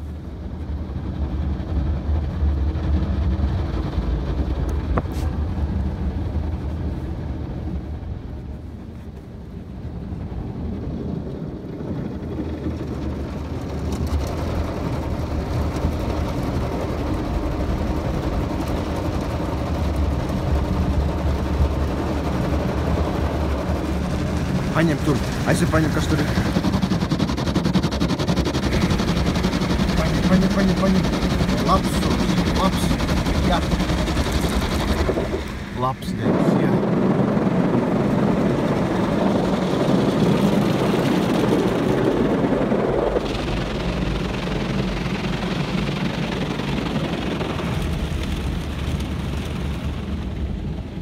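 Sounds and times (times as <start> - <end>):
car wash low rumble: 0.0 - 51.0.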